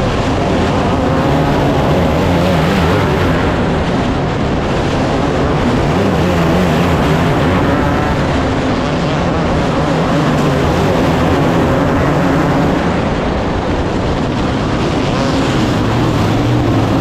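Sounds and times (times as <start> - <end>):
loud engine running: 0.0 - 17.0.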